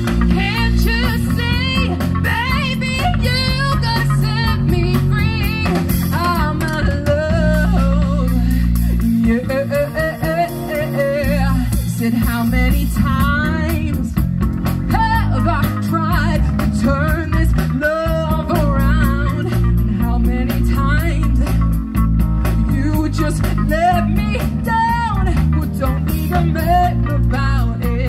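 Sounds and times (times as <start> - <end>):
bass guitar: 0.0 - 28.0
drum kit: 0.0 - 28.0
electric guitar: 0.0 - 28.0
woman singing into microphone: 0.0 - 28.0.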